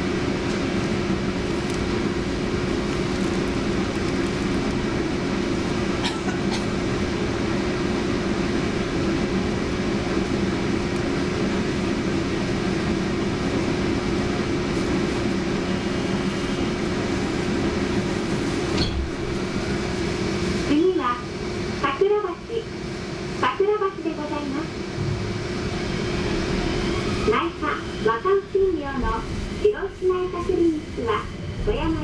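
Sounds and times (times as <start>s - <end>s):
tram running hum: 0.0s - 32.0s.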